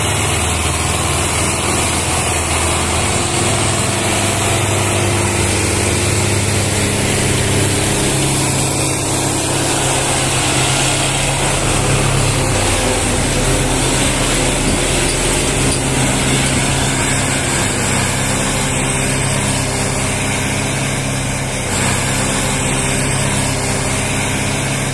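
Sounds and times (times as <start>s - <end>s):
tractor diesel engines under load: 0.0s - 24.9s.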